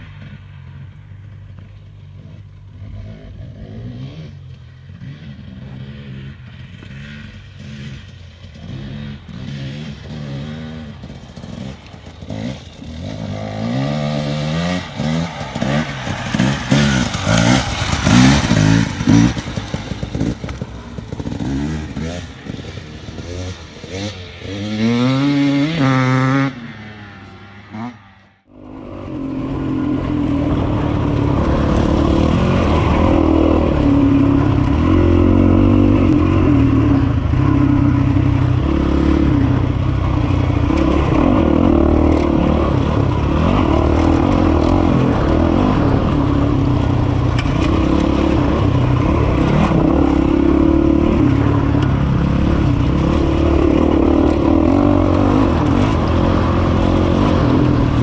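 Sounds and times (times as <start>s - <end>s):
dirt bike engine revving: 2.1s - 58.0s.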